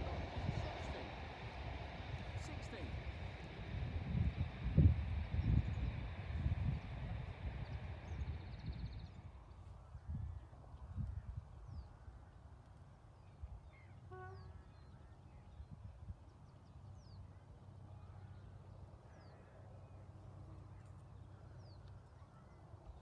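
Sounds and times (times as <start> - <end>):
low steady rumble: 0.0 - 22.2.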